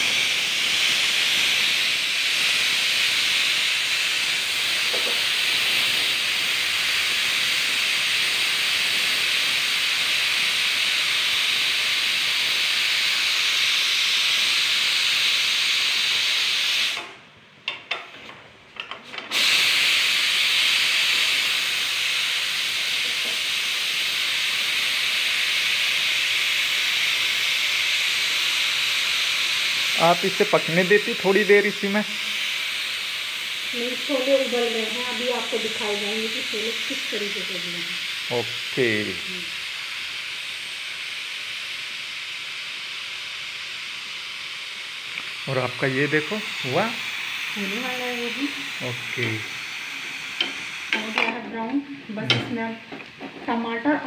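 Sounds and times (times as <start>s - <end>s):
pressure cooker steam hissing: 0.0s - 18.0s, 19.1s - 54.0s.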